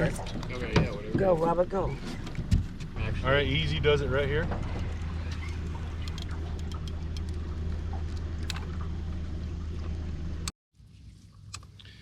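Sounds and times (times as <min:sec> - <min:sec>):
boat motor idling: 0:00.0 - 0:10.5.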